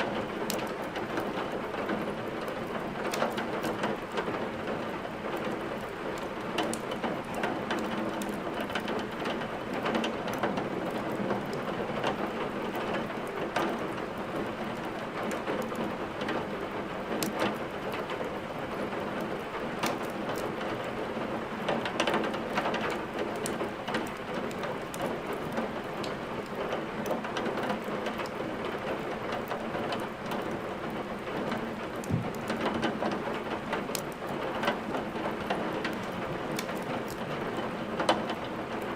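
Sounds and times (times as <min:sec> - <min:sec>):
steady rain hiss: 0:00.0 - 0:38.9
wood fire crackling: 0:00.0 - 0:38.9.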